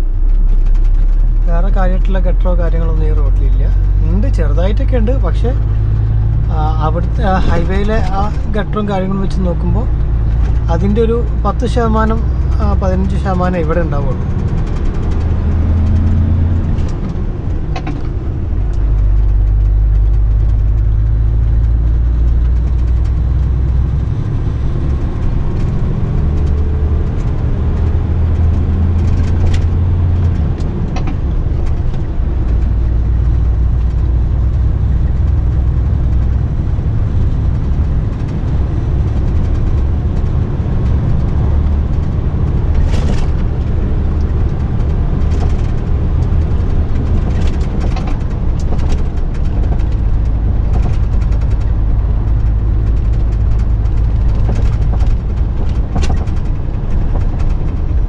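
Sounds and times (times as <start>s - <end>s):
road noise: 0.0s - 58.0s
truck engine drone: 0.0s - 58.0s.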